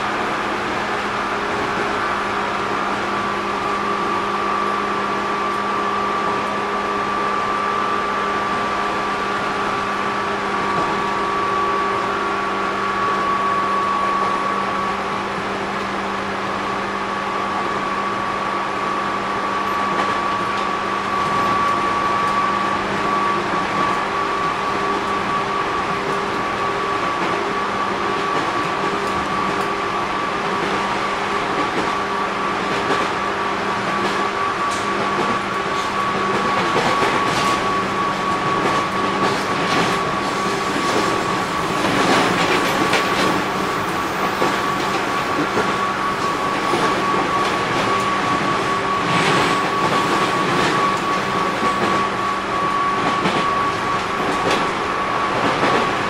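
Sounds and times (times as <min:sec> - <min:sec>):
electric train whine: 0:00.0 - 0:56.0
low train hum: 0:00.0 - 0:56.0.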